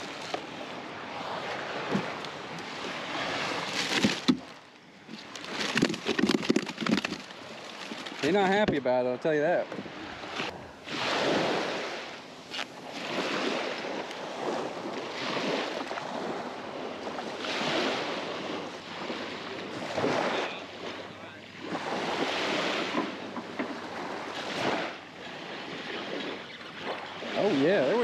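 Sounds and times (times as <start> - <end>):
small waves washing on sand: 0.0 - 28.0.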